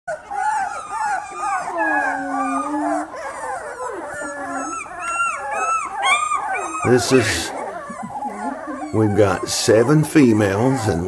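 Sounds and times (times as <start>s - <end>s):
puppies whining and howling: 0.1s - 11.0s.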